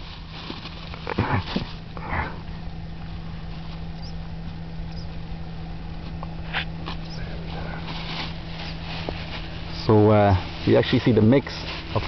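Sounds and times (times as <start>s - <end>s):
ground bait rustling: 0.0s - 12.0s
steady low hum: 0.0s - 12.0s.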